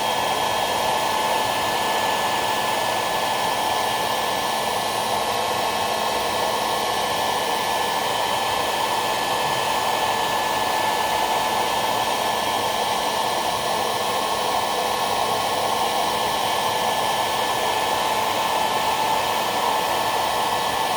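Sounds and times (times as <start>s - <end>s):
hair dryer running: 0.0s - 20.9s.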